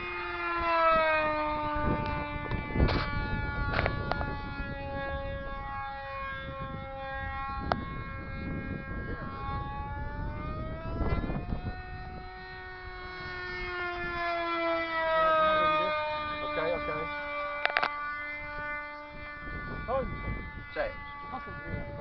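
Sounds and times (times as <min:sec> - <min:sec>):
propeller aircraft engine droning: 0:00.0 - 0:22.0
wind rumbling on microphone: 0:00.0 - 0:22.0.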